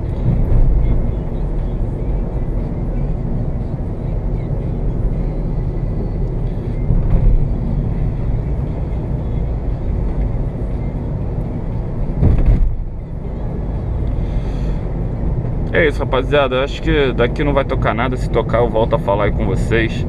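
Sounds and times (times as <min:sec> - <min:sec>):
car cabin road and engine noise: 0:00.0 - 0:20.0.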